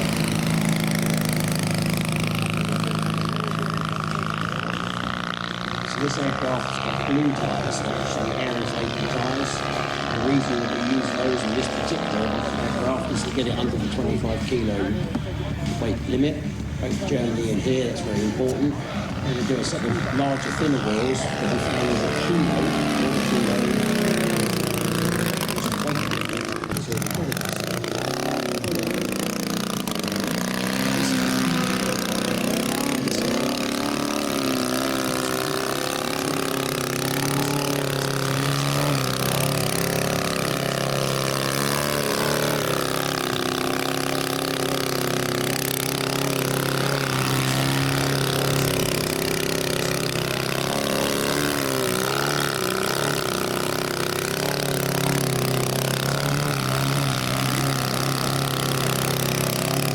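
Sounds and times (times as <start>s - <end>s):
model aircraft engine and propeller: 0.0s - 59.9s.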